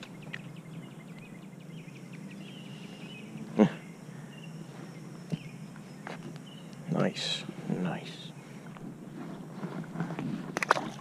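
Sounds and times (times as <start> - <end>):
small birds chirping: 0.0 - 10.5
steady low hum: 0.0 - 11.0.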